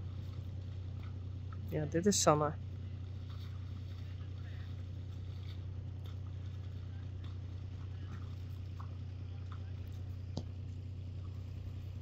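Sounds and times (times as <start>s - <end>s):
hooves splashing through water: 0.0s - 12.0s
steady low rumble: 0.0s - 12.0s.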